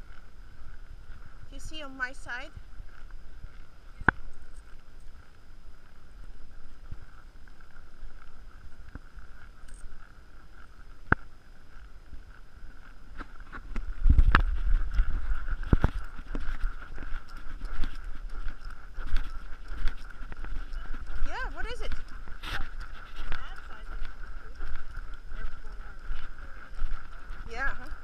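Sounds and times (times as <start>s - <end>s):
hooves on sand: 0.0s - 28.0s.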